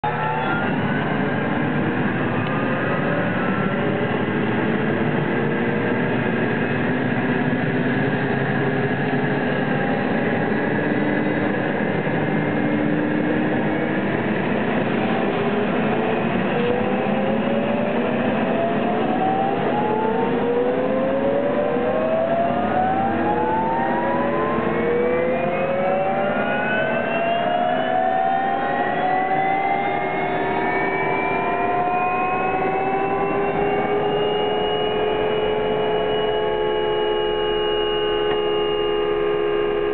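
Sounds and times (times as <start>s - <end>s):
whining tones rising in pitch: 0.0s - 39.9s.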